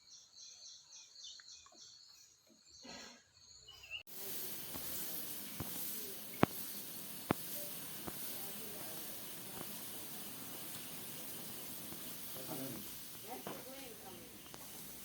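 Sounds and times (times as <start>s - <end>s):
outdoor background hiss: 2.8s - 15.0s.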